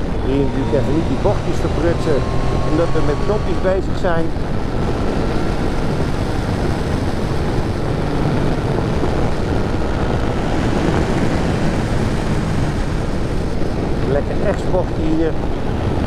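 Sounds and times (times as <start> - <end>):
motorcycle engine cruising: 0.0 - 16.0
wind noise on microphone: 0.0 - 16.0.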